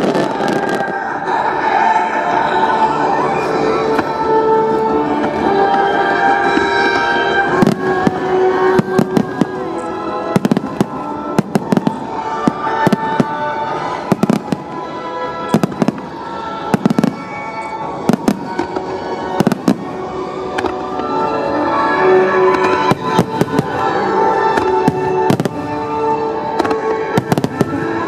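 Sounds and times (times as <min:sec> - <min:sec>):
fireworks bangs and crackles: 0:00.0 - 0:01.6, 0:02.8 - 0:28.0
music with held tones: 0:00.0 - 0:28.0.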